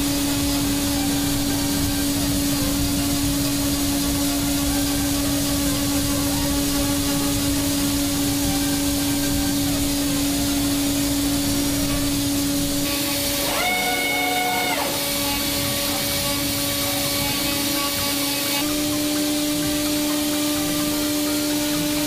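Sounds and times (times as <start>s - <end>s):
high held tone: 0.0s - 22.0s
milling machine cutting metal: 0.0s - 22.0s.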